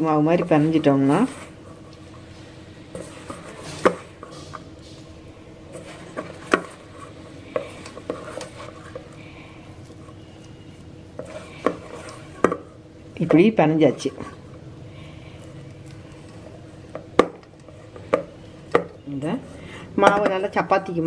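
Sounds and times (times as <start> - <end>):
dough squishing: 0.0 - 21.0
faint steady hum: 0.0 - 21.0.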